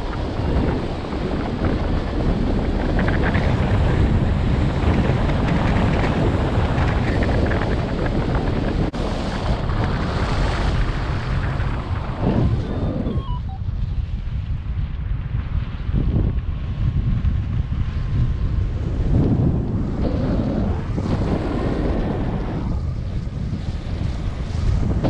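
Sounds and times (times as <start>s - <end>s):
wind rushing on microphone: 0.0s - 25.0s.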